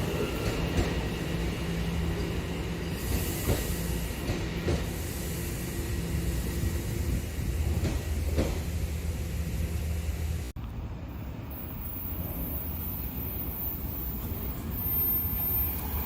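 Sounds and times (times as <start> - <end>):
subway train motors humming: 0.0 - 16.0.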